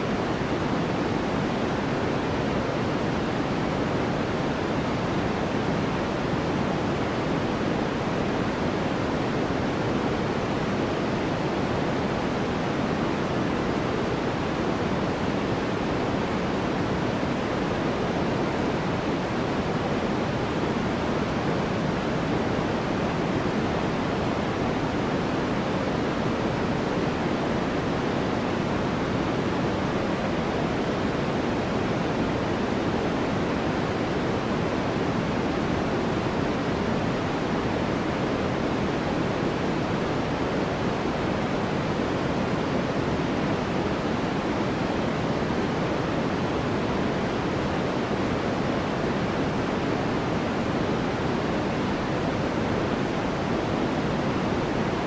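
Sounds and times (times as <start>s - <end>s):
steady deep white noise: 0.0s - 55.0s.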